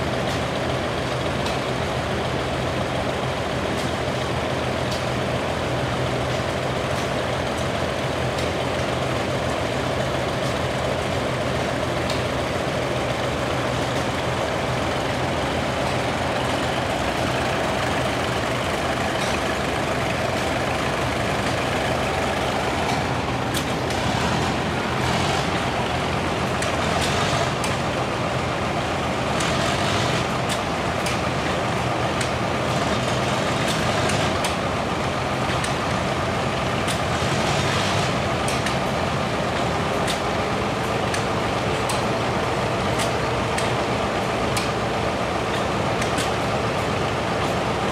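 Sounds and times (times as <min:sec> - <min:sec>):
tractor engines running: 0:00.0 - 0:47.9.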